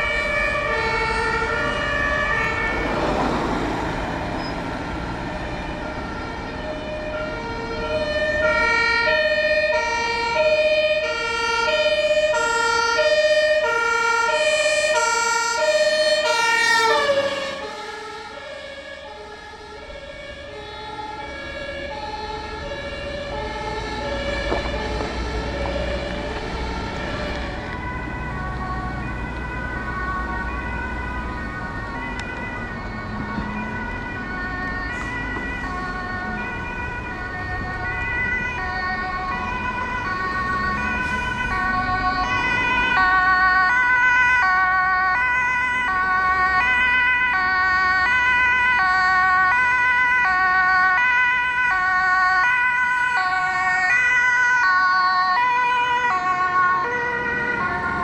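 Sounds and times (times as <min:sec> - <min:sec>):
two-tone emergency sirens: 0:00.0 - 0:58.0.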